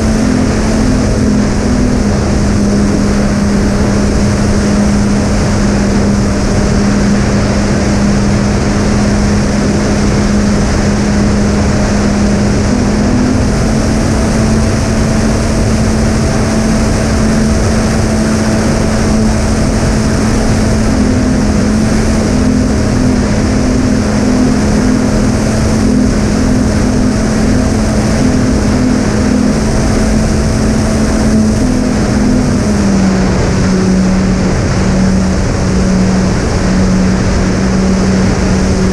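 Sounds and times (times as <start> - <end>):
electric motors droning: 0.0 - 38.9
rush of airflow: 0.0 - 38.9.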